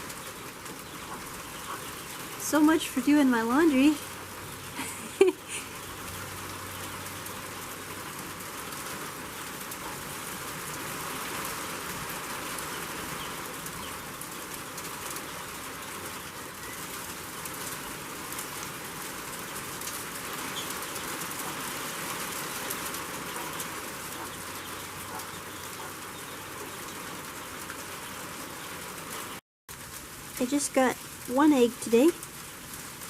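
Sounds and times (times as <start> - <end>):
freezing rain pattering: 0.0 - 33.0.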